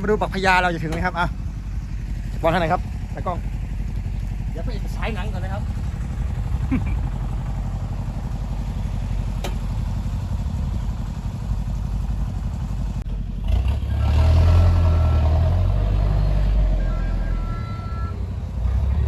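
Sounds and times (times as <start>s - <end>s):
truck diesel engine under load: 0.0s - 19.0s.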